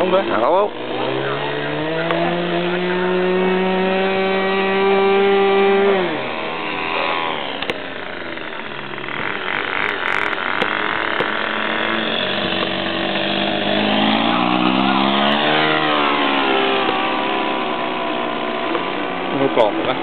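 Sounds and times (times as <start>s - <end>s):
model airplane engine passing: 0.0s - 20.0s.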